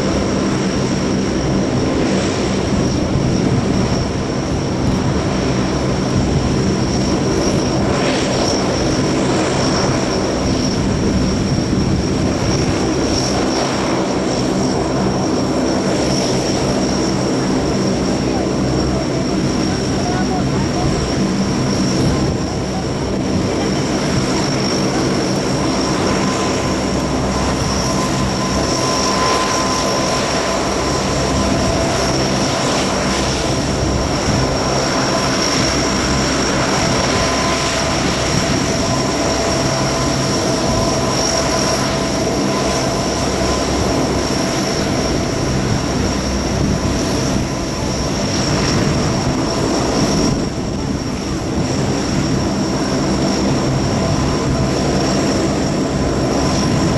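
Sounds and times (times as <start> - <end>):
high-pitched turbine whine: 0.0 - 56.9
turboprop propeller drone: 0.0 - 56.9.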